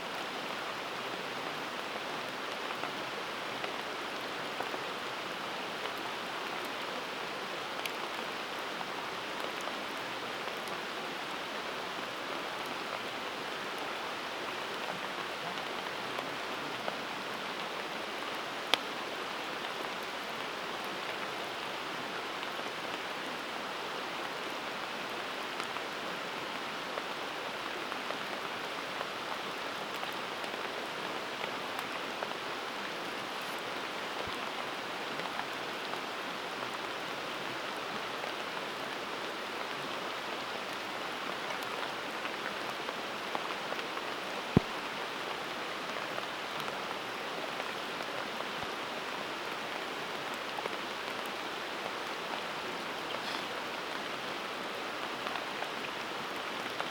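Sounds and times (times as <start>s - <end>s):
campfire crackling and hissing: 0.0s - 56.9s.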